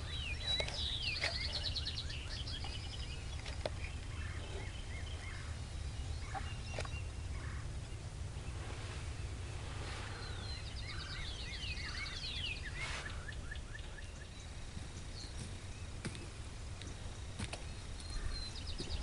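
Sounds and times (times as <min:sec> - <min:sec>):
birds calling in short notes: 0:00.0 - 0:19.0
steady low rumble: 0:00.0 - 0:19.0.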